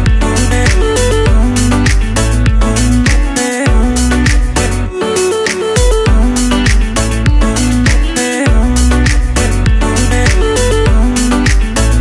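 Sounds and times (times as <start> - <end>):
deep bass: 0.0 - 4.9, 6.0 - 12.0
background music with steady beat: 0.0 - 12.0
plucked guitar: 0.0 - 12.0.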